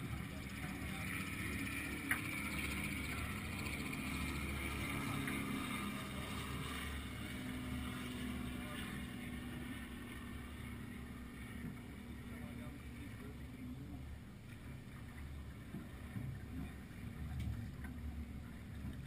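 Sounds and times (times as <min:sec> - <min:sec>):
water rushing along hull: 0:00.0 - 0:19.0.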